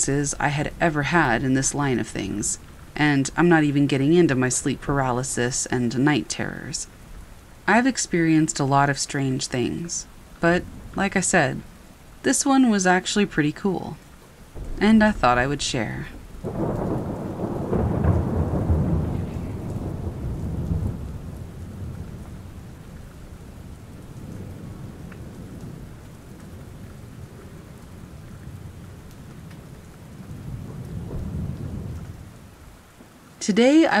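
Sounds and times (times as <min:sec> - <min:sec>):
thunder rumbling: 0:00.0 - 0:33.0
steady rain: 0:00.0 - 0:34.0.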